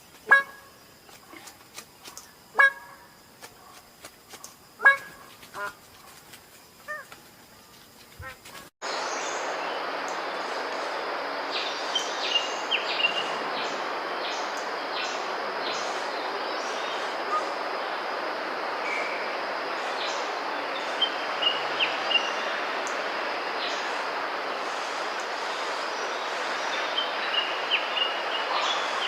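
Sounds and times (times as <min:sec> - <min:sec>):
rainforest hiss: 0:00.0 - 0:29.0.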